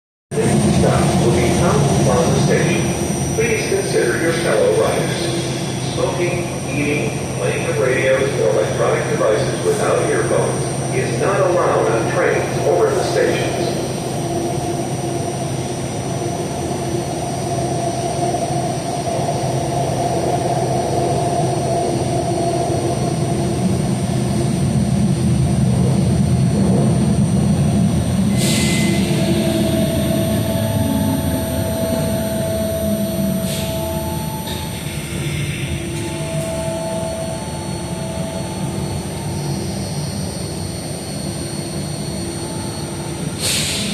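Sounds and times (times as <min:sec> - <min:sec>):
train rumble on track: 0:00.3 - 0:43.9.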